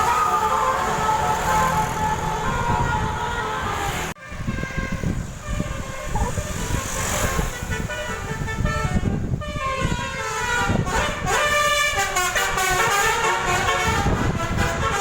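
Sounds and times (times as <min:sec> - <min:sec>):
engine and road rumble: 0:00.0 - 0:15.0
multi-tone bus horn playing tune: 0:00.0 - 0:15.0.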